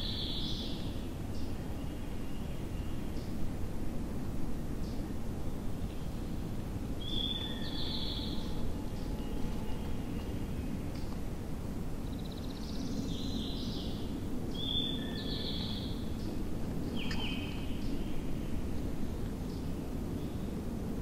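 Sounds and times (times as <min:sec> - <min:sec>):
songbirds singing: 0:00.0 - 0:03.5, 0:04.8 - 0:11.3, 0:11.9 - 0:20.6
low outdoor rumble: 0:00.0 - 0:21.0.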